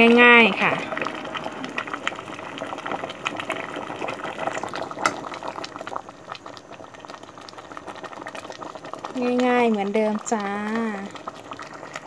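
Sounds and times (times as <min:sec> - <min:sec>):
curry boiling in pot: 0:00.0 - 0:12.0.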